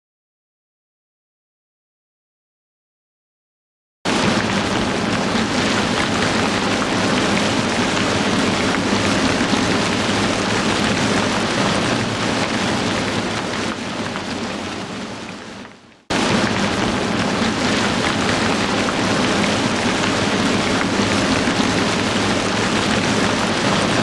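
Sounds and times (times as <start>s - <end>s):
heavy rain pouring: 4.1s - 24.0s.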